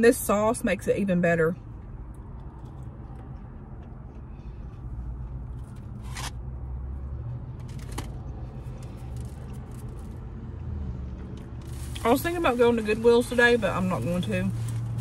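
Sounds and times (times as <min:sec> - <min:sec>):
car interior hum: 0:00.0 - 0:15.0.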